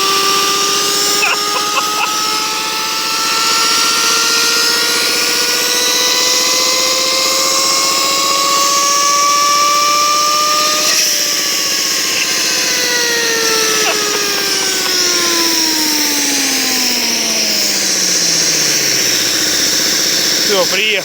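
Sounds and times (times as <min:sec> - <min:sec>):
worn bearing whining: 0:00.0 - 0:21.0.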